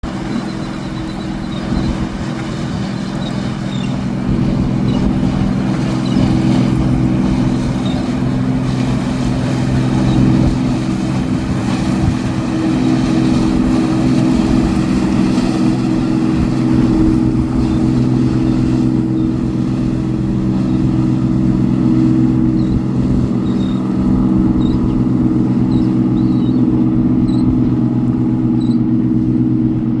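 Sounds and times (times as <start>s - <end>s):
boat engine drone: 0.0s - 30.0s
wind and water rushing: 0.0s - 30.0s.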